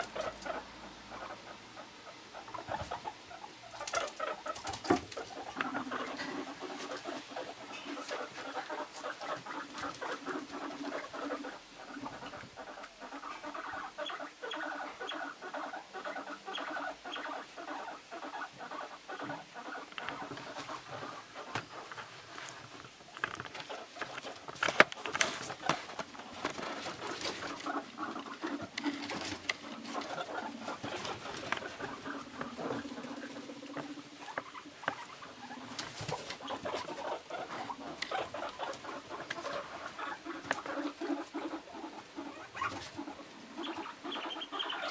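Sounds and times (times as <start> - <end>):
guinea pigs purring rumble: 0.0 - 44.9.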